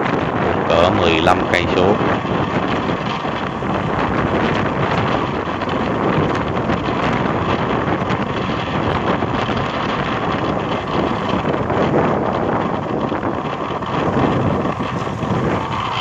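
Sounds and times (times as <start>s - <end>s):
motorbike running and road noise: 0.0s - 16.0s
wind buffeting microphone: 0.0s - 16.0s.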